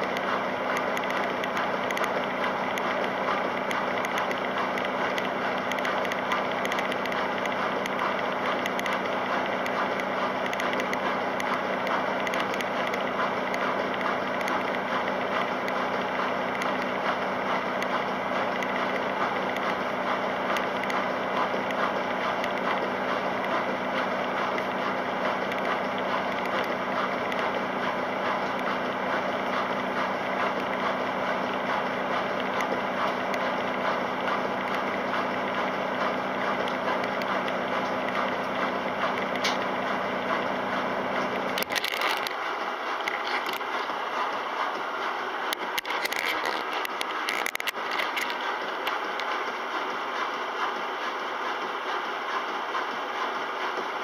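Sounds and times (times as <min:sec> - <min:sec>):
washing machine churning water: 0:00.0 - 0:54.0
washing machine motor hum: 0:00.0 - 0:54.0.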